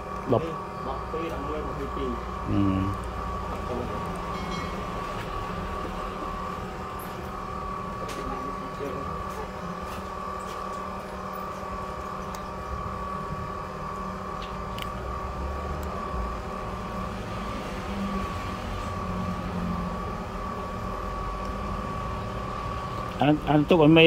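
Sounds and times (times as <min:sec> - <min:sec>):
machine hum with high whine: 0:00.0 - 0:24.0.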